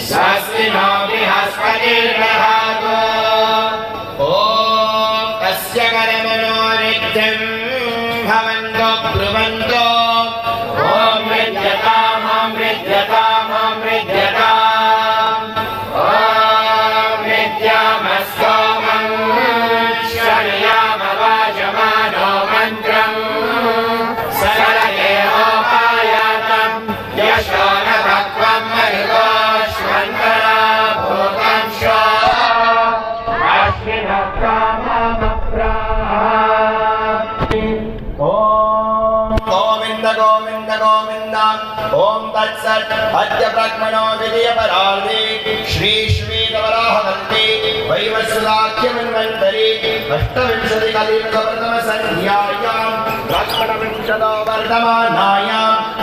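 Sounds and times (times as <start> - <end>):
group chanting together: 0.0 - 56.0.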